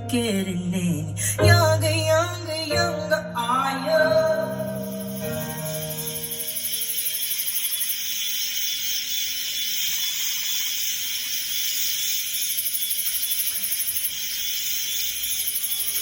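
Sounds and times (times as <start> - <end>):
fast high hi-hat ticking: 2.6 - 16.0
hissing airy song texture: 2.7 - 16.0.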